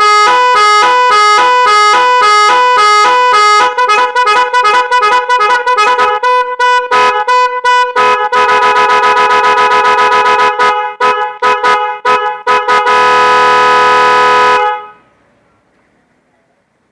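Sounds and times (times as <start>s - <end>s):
multi-tone musical horn toots: 0.0s - 15.1s.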